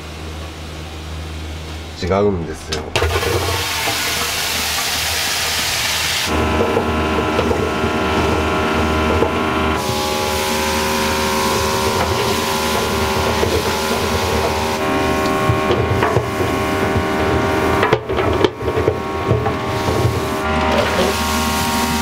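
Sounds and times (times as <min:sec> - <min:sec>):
kitchen burners droning: 0:00.0 - 0:22.0.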